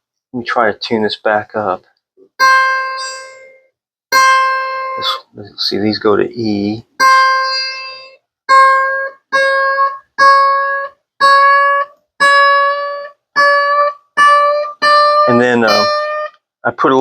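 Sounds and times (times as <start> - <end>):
mandolin string plucked: 1.3 - 16.4.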